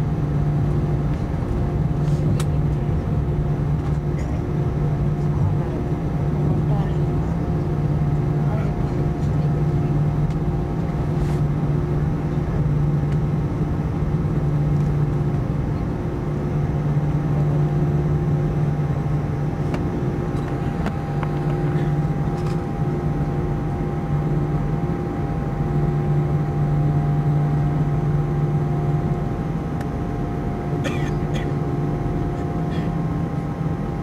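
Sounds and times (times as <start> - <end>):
jet engines droning: 0.0 - 34.0.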